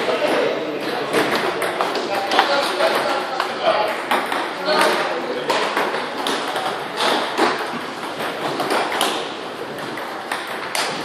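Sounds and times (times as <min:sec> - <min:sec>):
table tennis balls clicking: 0:00.0 - 0:11.0.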